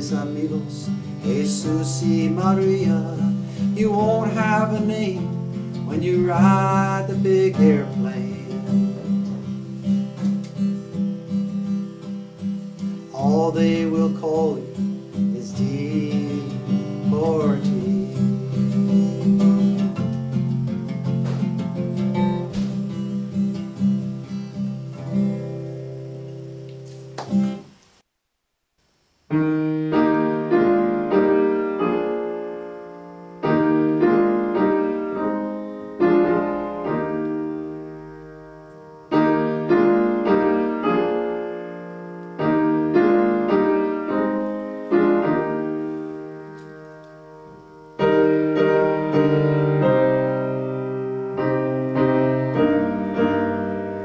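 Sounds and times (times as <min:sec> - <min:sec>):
slow piano chords: 0:00.0 - 0:26.8, 0:29.3 - 0:54.0
acoustic guitar strumming: 0:00.0 - 0:27.8, 0:29.3 - 0:54.0.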